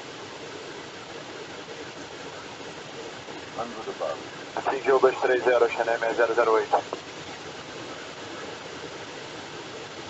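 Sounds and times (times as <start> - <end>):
radio hiss: 0.0 - 10.0.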